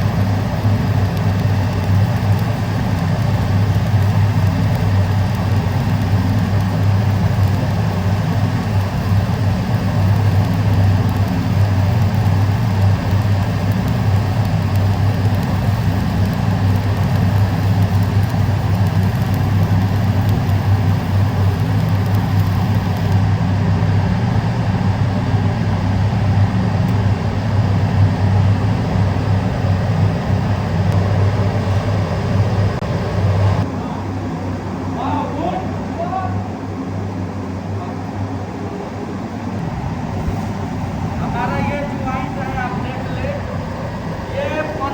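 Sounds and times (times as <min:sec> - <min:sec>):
welding equipment humming: 0:00.0 - 0:33.6, 0:39.2 - 0:44.9.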